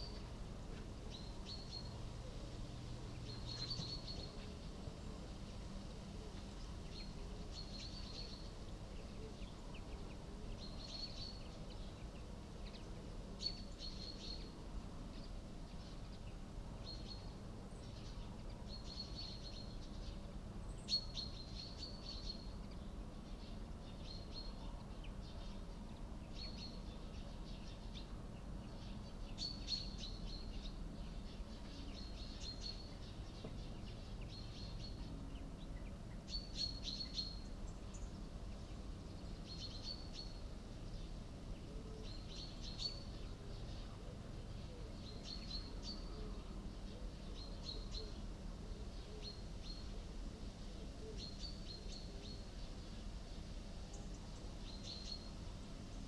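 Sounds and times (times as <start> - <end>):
bird chirping: 3.1 - 4.6, 6.3 - 44.0, 44.6 - 49.9, 51.0 - 56.0.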